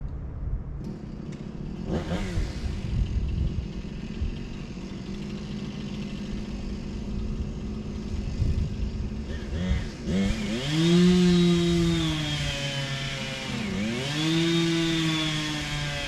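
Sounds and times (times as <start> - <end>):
engine running and revving: 0.8 - 16.0.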